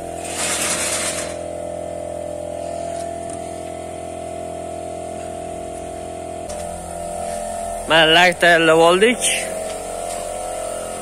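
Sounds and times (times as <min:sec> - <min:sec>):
sprayer motor humming: 0:00.0 - 0:11.0.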